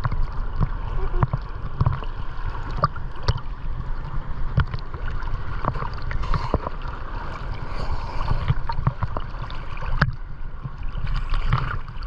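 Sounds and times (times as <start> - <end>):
seawater sloshing and splashing: 0.0 - 12.0.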